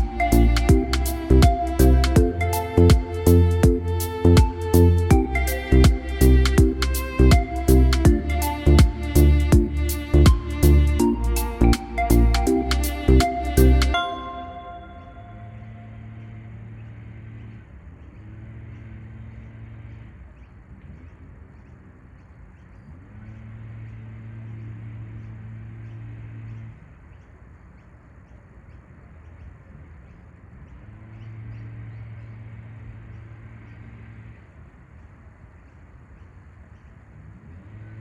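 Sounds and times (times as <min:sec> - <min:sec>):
faint outdoor background noise: 0:00.0 - 0:38.0
low mechanical hum: 0:00.0 - 0:38.0.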